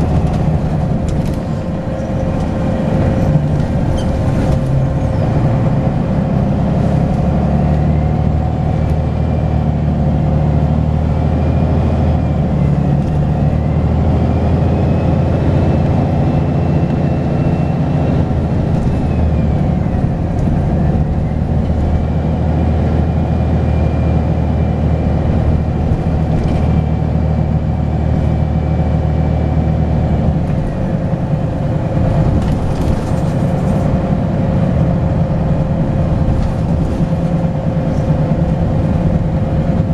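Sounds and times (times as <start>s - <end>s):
diesel bus engine under load: 0.0s - 39.9s.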